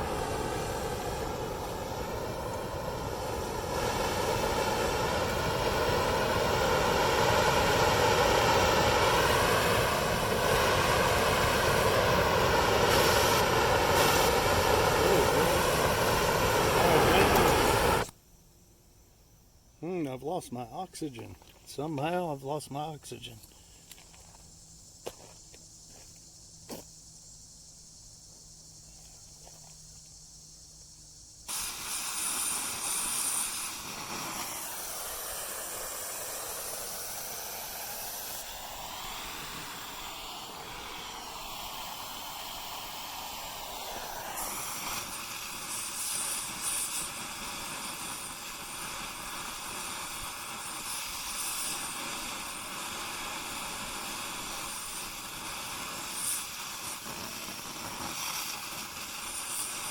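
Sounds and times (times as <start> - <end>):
cutting torch hissing: 0.0 - 18.2, 19.8 - 59.9.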